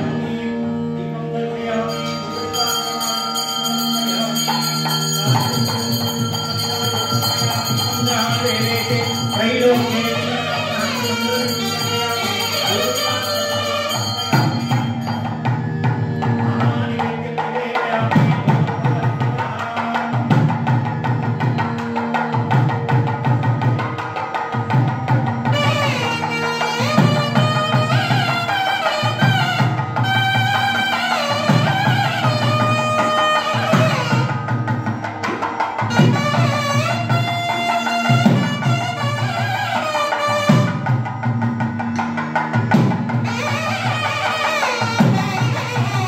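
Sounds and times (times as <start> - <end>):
nagaswaram melody: 0.0 - 46.0
drum strokes: 4.1 - 46.0.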